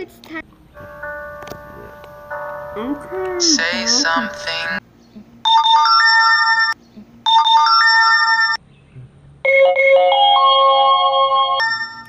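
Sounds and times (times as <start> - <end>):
phone ringtone melody: 0.8 - 4.8, 5.5 - 8.6, 9.5 - 12.0.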